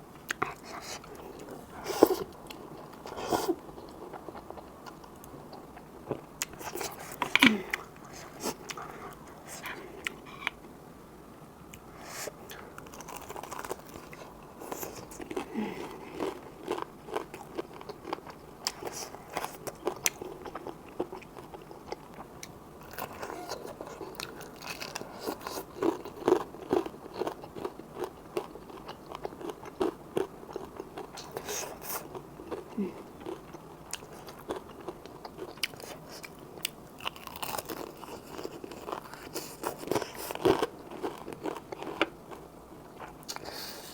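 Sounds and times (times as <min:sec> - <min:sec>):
chewing noodles: 0:00.2 - 0:10.6, 0:12.5 - 0:42.4.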